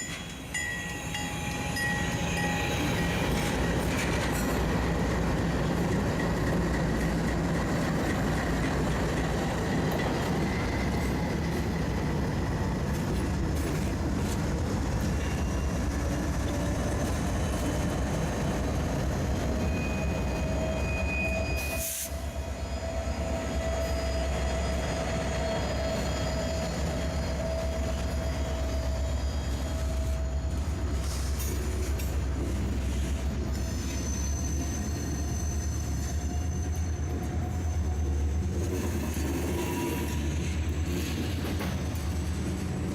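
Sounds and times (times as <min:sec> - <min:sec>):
freight train cars rumbling: 0:00.0 - 0:42.9
train wheels squealing: 0:00.0 - 0:42.9.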